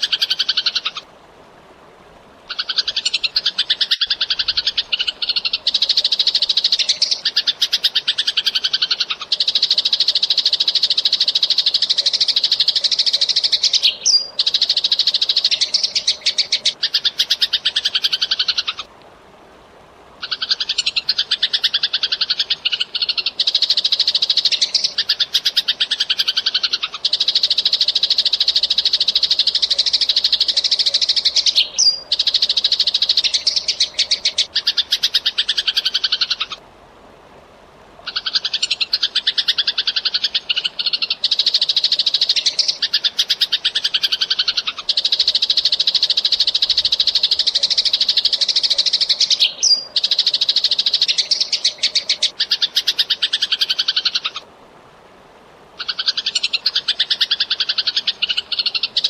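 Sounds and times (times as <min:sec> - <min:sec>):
sparrows chirping: 0:02.5 - 0:18.8, 0:20.2 - 0:36.6, 0:38.1 - 0:54.4.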